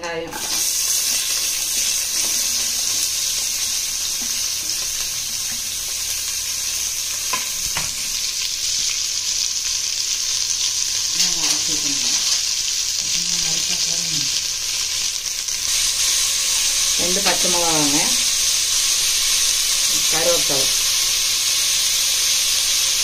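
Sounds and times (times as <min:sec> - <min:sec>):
onions sizzling in hot oil: 0:00.2 - 0:23.0.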